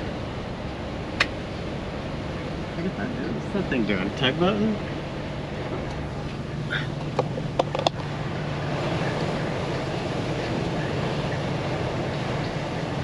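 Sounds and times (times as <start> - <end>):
ferry engine drone: 0.0 - 13.0.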